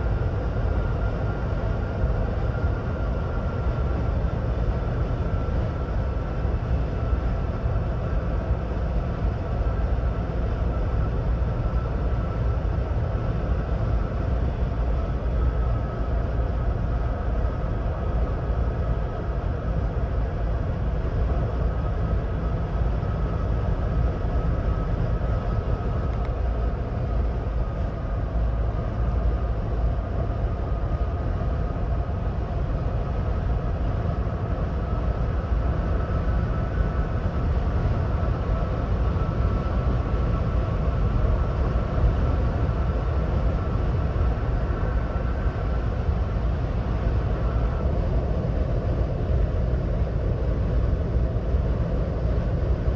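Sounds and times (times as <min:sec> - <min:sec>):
faint thin whine: 0:00.0 - 0:52.9.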